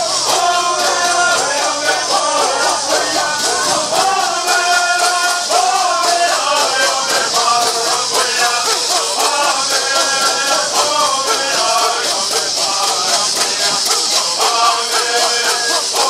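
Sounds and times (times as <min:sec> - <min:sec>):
gourd rattles shaking: 0:00.0 - 0:16.0
men singing in unison: 0:00.0 - 0:16.0.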